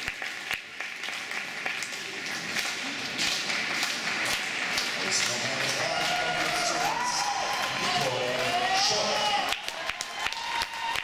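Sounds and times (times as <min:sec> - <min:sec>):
audience applause: 0:00.0 - 0:11.0.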